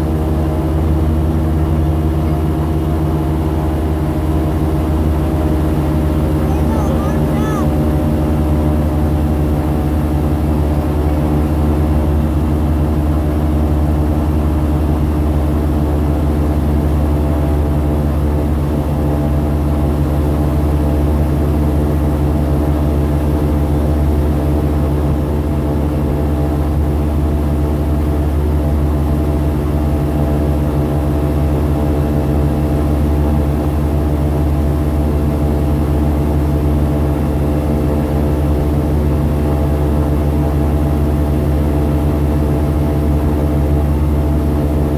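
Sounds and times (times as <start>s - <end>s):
airboat engine drone: 0.0s - 44.9s.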